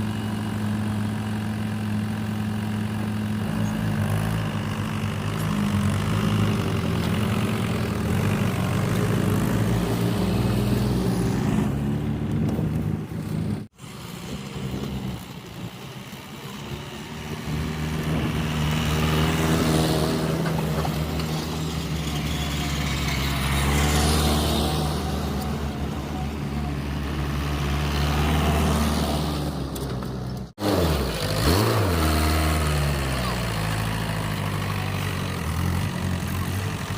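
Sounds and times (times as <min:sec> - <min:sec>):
diesel engine under load: 0:00.0 - 0:36.9.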